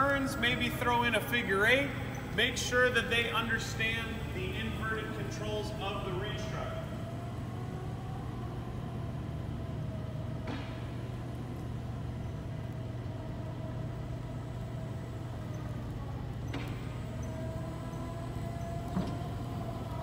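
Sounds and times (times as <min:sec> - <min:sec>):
electric truck hum and whine: 0:00.0 - 0:20.0.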